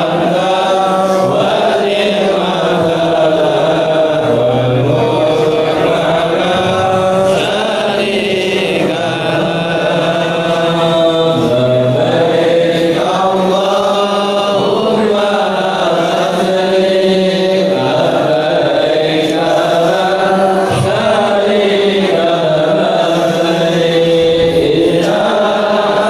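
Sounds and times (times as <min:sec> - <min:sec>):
group chanting devotional song: 0:00.0 - 0:26.0.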